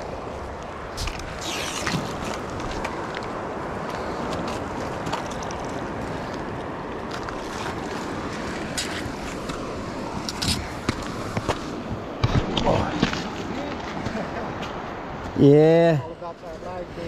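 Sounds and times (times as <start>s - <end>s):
moving water: 0.0s - 17.0s.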